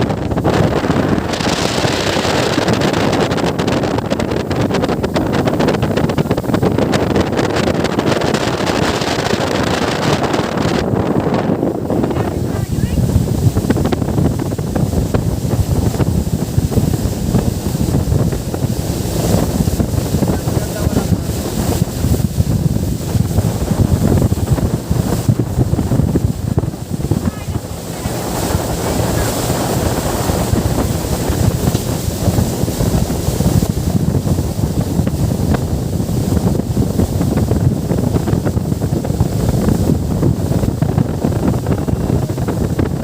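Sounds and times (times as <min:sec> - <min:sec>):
water rushing against boat hull: 0:00.0 - 0:43.0
wind buffeting microphone: 0:00.0 - 0:43.0.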